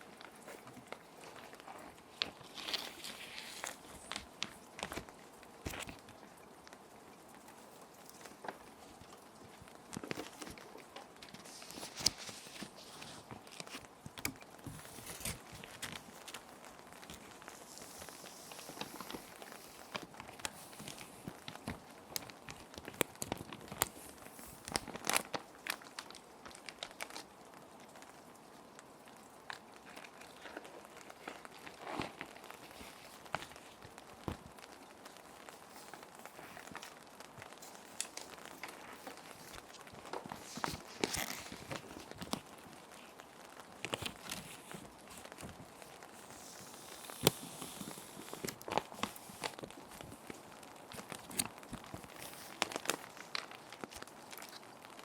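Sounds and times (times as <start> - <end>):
plastic sheet protectors crinkling: 0.0 - 27.4, 29.5 - 55.0
faint steady rain: 0.0 - 55.0.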